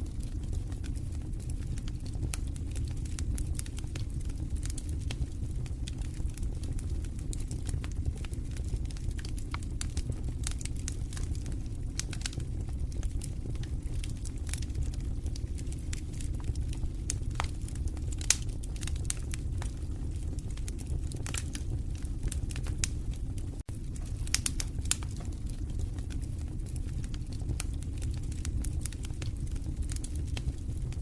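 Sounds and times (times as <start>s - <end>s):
low rumble of flames: 0.0s - 31.0s
wood fire crackling and popping: 0.0s - 31.0s.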